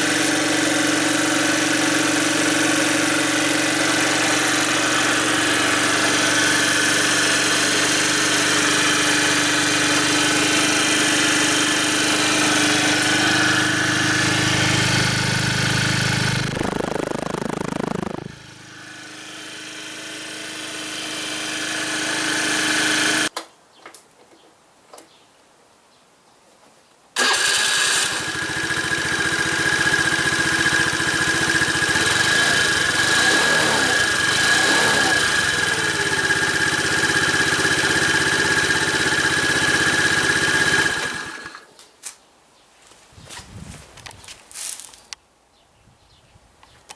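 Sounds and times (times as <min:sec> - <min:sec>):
scooter engine idling: 0:00.0 - 0:23.3, 0:27.2 - 0:41.7.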